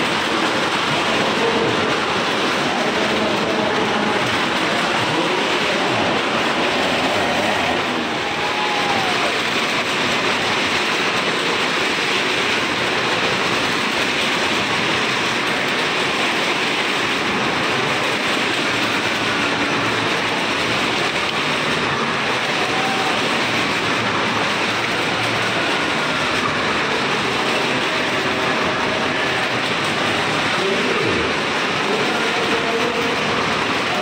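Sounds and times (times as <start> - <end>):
car engines and tyres rumbling: 0.0 - 34.0.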